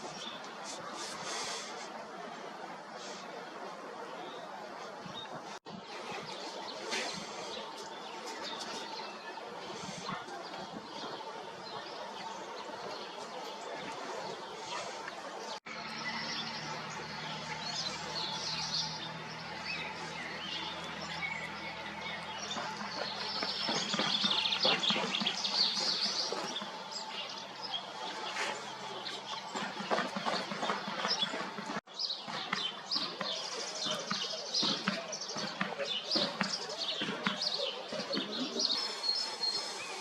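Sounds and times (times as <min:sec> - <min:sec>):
songbirds chirping and singing: 0:00.0 - 0:40.0.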